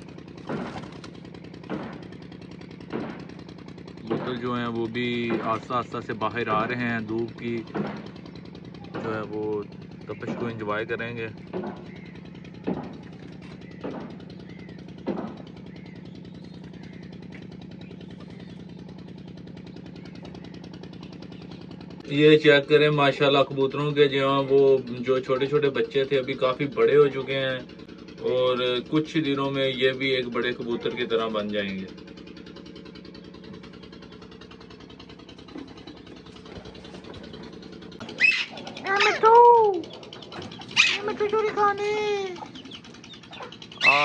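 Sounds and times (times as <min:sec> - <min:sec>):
pulsing mechanical hum: 0:00.0 - 0:44.0.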